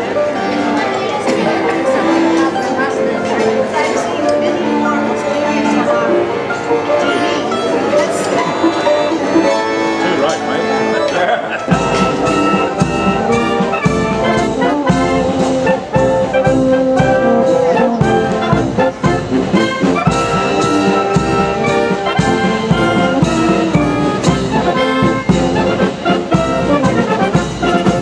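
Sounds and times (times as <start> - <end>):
military brass band playing: 0.0 - 28.0.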